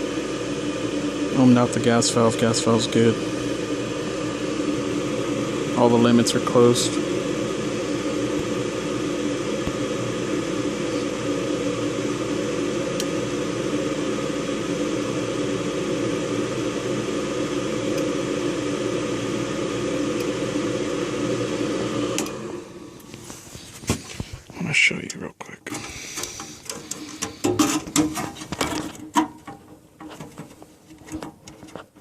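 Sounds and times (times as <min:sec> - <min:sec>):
furnace inducer motor whirring: 0:00.0 - 0:32.0.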